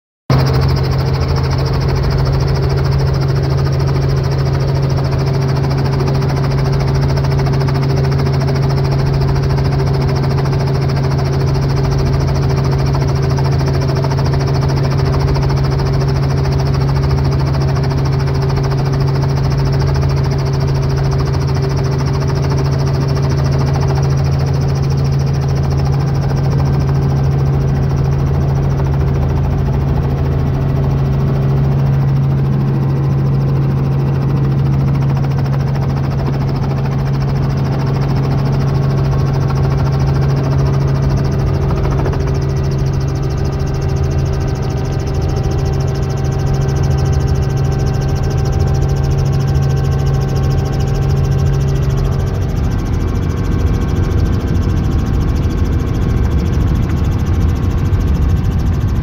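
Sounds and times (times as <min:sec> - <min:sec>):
helicopter engine and rotor drone: 0:00.3 - 0:59.0.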